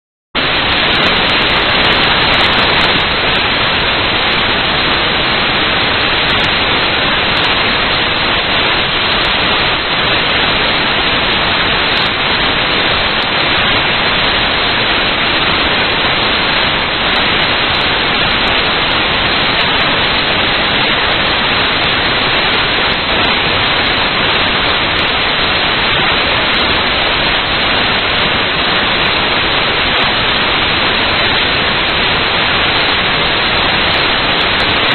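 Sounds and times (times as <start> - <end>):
static hiss: 0.4 - 34.9.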